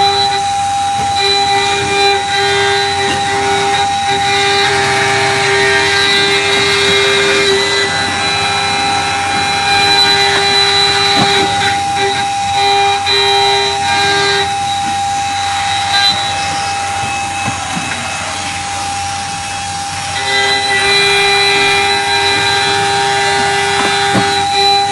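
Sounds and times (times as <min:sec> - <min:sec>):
low machine hum: 0:00.0 - 0:24.9
metal cutting noise: 0:00.0 - 0:24.9
milling machine whine: 0:00.0 - 0:24.9.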